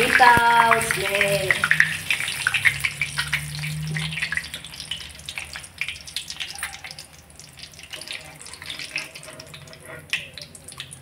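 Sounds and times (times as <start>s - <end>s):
nuts frying in hot oil: 0.0s - 11.0s.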